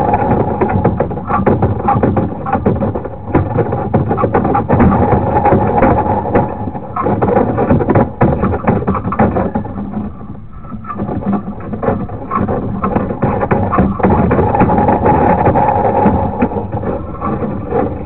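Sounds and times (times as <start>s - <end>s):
cable rattling and scraping in drain: 0.0s - 18.0s.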